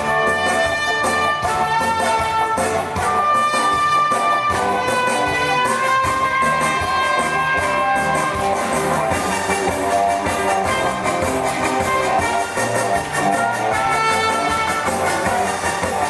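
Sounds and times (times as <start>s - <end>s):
band accompaniment with steady beat: 0.0s - 16.0s
trumpet melody: 0.0s - 16.0s.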